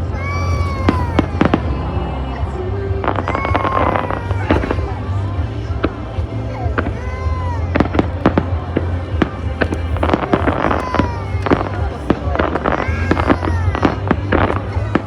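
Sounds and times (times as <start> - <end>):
low rumble: 0.0 - 15.0
fireworks bangs and crackles: 0.8 - 7.0, 7.6 - 15.0.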